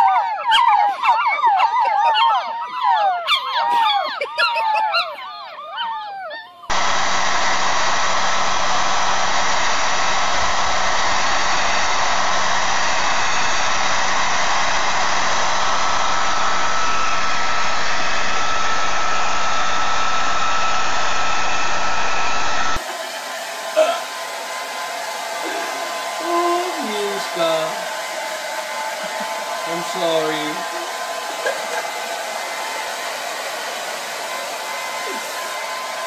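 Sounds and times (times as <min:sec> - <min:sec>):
hair dryer blowing: 0:03.7 - 0:04.7, 0:06.7 - 0:36.0.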